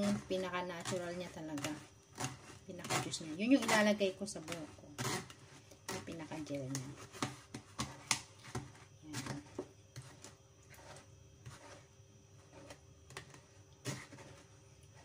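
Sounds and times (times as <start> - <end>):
spoon scraping metal strainer: 0.0 - 15.0.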